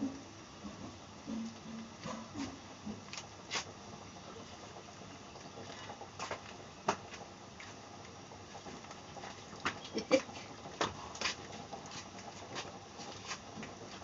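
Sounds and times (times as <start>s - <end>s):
pot of water boiling: 0.0s - 14.0s.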